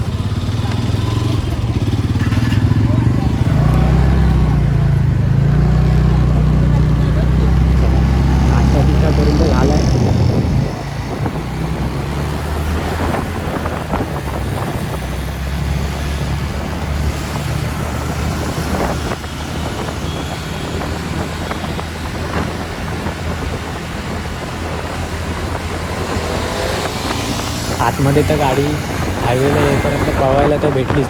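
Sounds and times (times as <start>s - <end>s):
road noise: 0.0s - 31.0s
scooter engine running: 0.0s - 31.0s
wind rushing over microphone: 0.0s - 31.0s.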